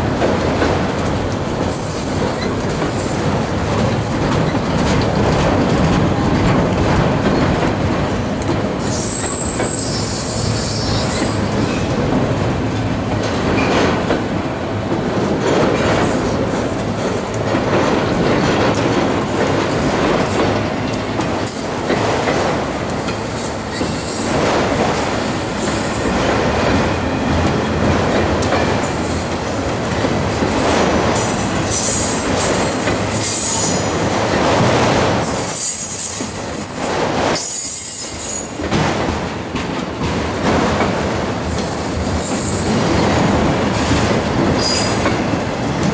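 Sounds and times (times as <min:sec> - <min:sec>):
train wheels clicking over rail joints: 0:00.0 - 0:45.9.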